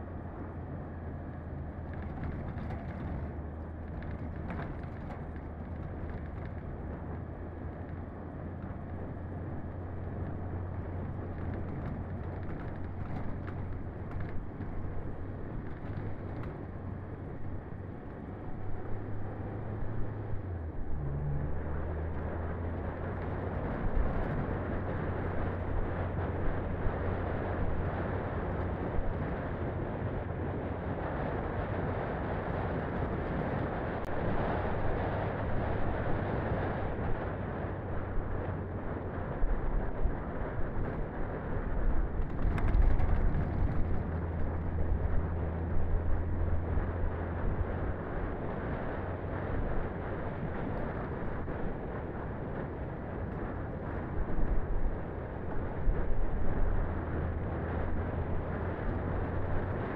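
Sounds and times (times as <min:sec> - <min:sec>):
car engine hum: 0:00.0 - 0:59.9.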